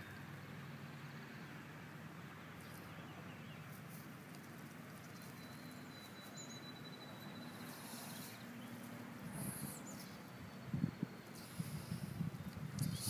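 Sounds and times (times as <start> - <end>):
rustles: 2.5 - 13.0.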